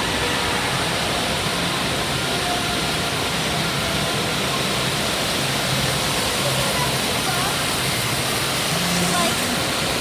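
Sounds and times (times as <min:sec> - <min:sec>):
rushing and falling water: 0:00.0 - 0:10.0.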